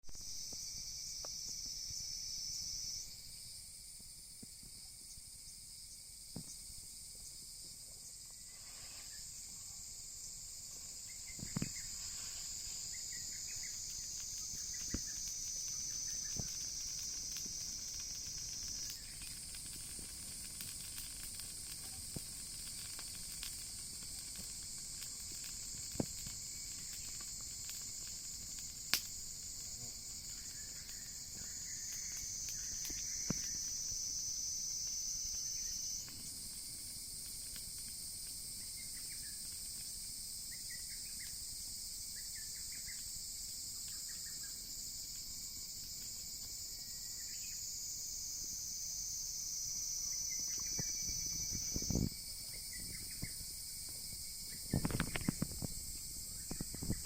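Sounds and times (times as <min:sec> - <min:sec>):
bonfire crackling and popping: 0:00.0 - 0:57.0
insects trilling: 0:00.1 - 0:57.0.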